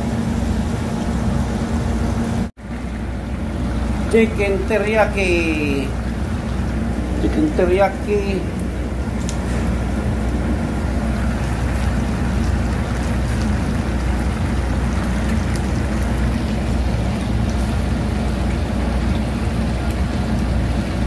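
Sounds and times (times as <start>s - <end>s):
low machinery hum: 0.0s - 21.0s
chicken sizzling in a frying pan: 3.0s - 21.0s.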